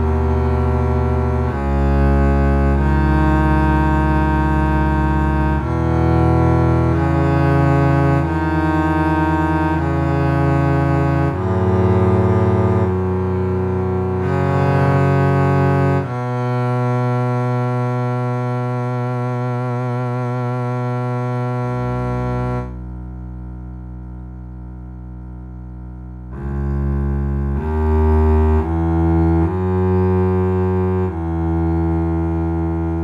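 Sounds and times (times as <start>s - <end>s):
synthesizer bowed string bass: 0.0s - 33.0s.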